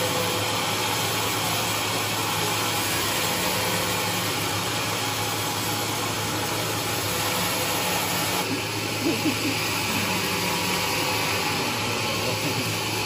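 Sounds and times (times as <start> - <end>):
bandsaw whirring: 0.0 - 13.0.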